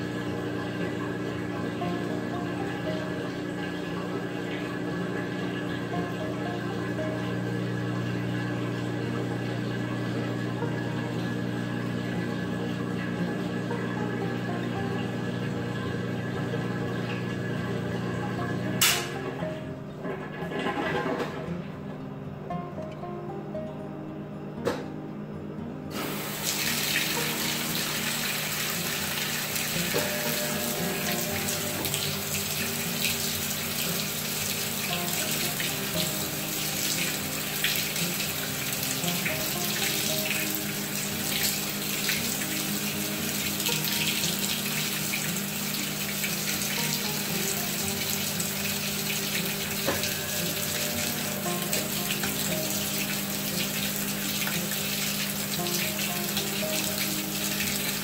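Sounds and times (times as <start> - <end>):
water pouring into washer tub: 0.0 - 18.2, 25.9 - 58.0.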